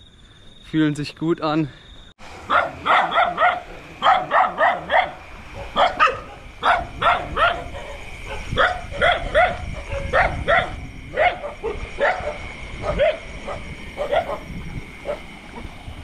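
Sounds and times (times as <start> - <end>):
dogs barking: 2.4 - 15.8.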